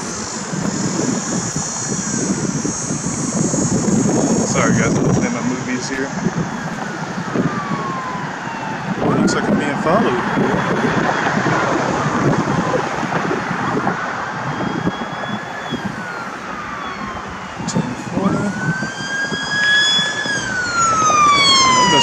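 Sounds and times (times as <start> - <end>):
emergency siren wailing: 0.0 - 22.0
passing road traffic: 0.0 - 22.0.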